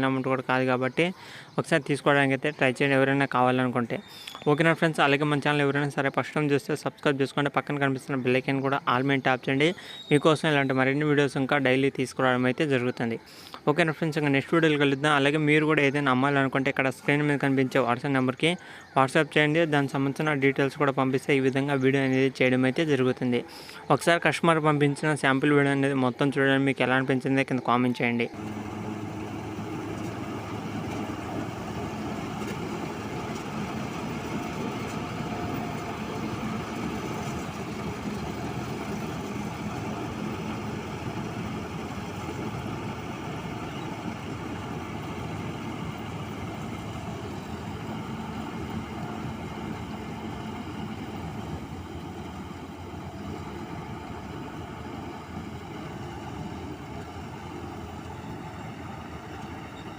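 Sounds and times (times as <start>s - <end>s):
tractor diesel engine running: 0.0s - 23.9s, 28.1s - 59.9s.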